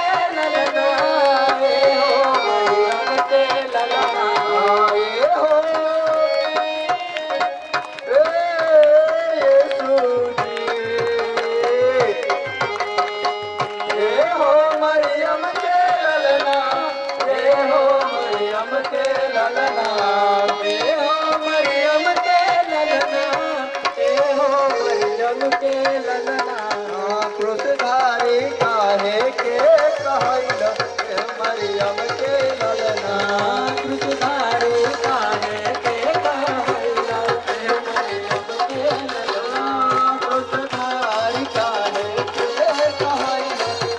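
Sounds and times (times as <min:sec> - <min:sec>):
hand-clapping: 0:00.0 - 0:43.9
hand-drum beat: 0:00.0 - 0:43.9.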